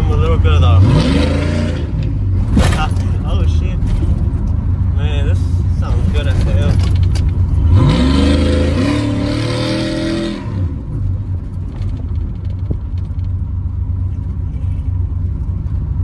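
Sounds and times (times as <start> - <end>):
truck engine revving: 0.0 - 13.2.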